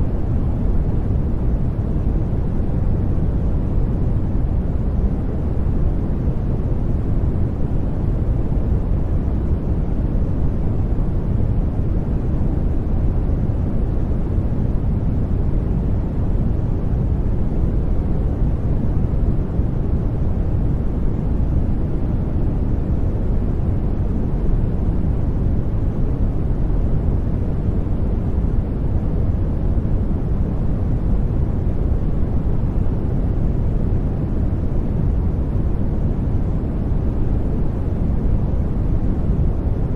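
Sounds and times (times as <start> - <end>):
deep white noise: 0.0 - 39.9.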